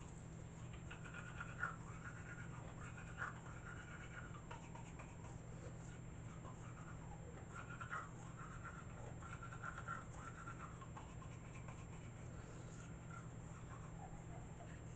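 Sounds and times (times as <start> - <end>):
steady low hum: 0.0 - 14.9
toothbrush bristles scrubbing teeth: 0.6 - 14.0.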